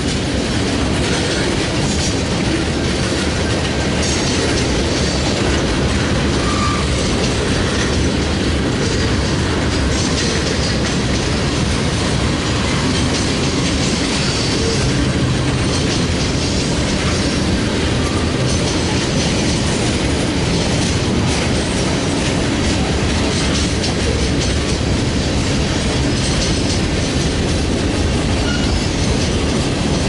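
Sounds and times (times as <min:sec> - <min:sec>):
freight train rumbling past: 0:00.0 - 0:30.0
wheels clacking over rail joints: 0:00.0 - 0:30.0.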